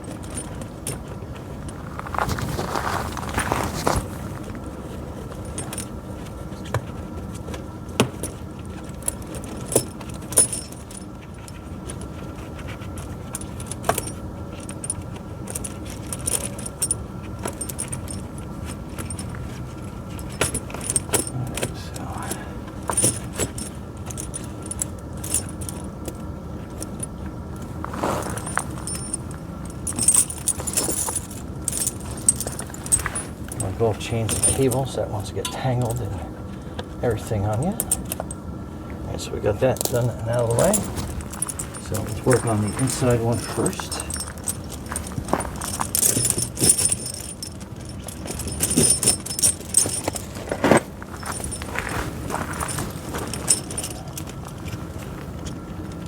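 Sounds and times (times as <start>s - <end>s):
steady low hum: 0.0s - 56.0s
tire chain links clinking: 0.0s - 56.0s.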